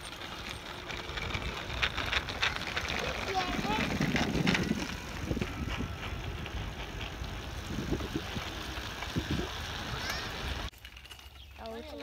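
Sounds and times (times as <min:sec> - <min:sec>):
bicycle tyres rolling on gravel: 0:00.0 - 0:12.0.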